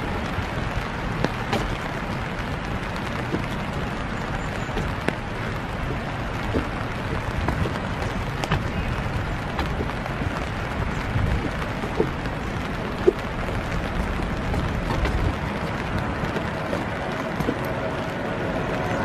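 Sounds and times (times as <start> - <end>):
rain hissing: 0.0 - 19.0
sharp irregular taps: 1.0 - 17.7.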